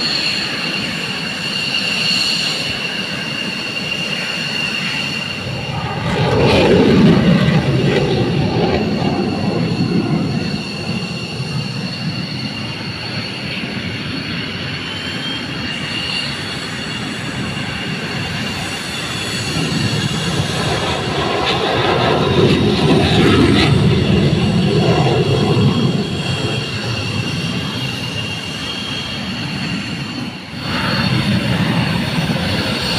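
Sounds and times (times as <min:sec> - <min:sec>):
aircraft engines roaring: 0:00.0 - 0:32.9
high turbine whine: 0:00.0 - 0:32.9.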